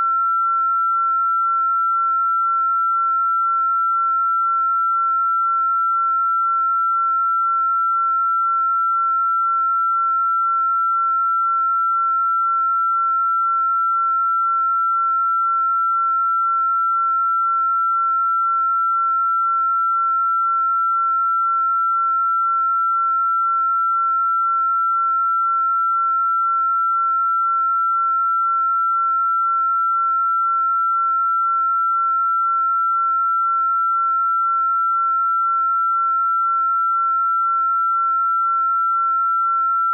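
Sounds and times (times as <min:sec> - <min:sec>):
high sine-wave tone: 0:00.0 - 0:39.9.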